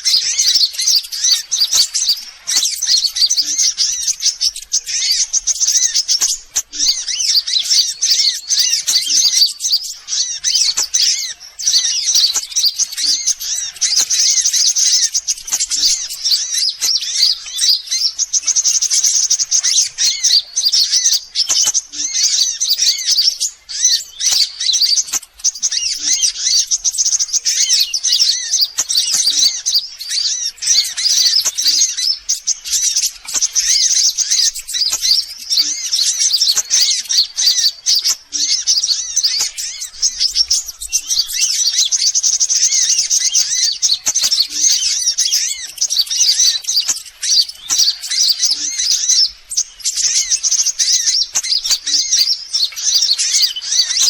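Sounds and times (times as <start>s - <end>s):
birds chirping and twittering: 0.0s - 54.0s.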